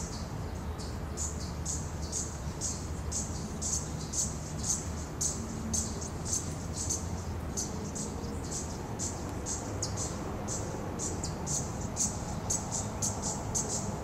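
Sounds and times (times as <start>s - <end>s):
baby hummingbird chirping: 0.0s - 14.0s.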